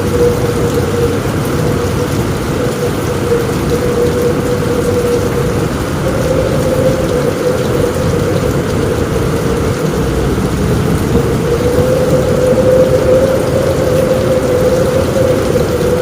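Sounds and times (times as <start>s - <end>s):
low rumble: 0.0s - 16.0s
rain drumming on a roof: 0.0s - 16.0s.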